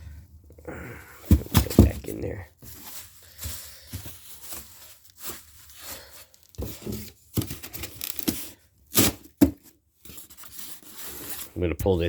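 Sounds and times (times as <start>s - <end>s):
cardboard box rustling: 1.0s - 12.0s.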